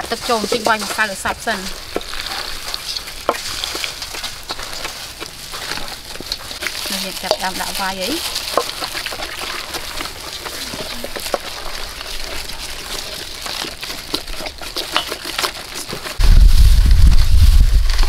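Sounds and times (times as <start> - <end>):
whisk scraping a steel bowl: 0.0 - 18.0.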